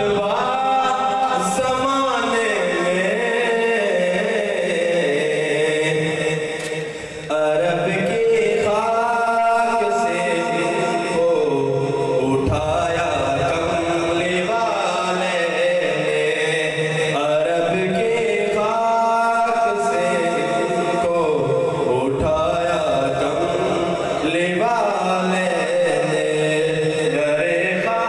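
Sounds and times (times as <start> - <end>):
man chanting into a microphone: 0.0 - 28.0.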